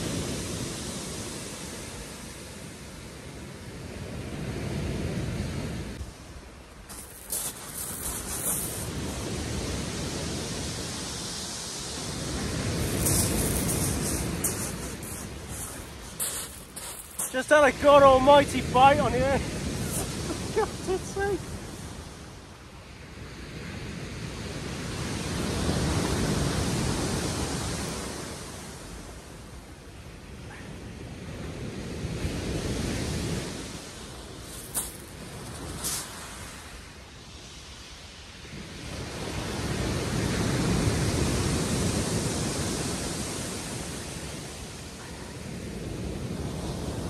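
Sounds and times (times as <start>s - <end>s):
sea surf on shingle beach: 0.0s - 47.0s.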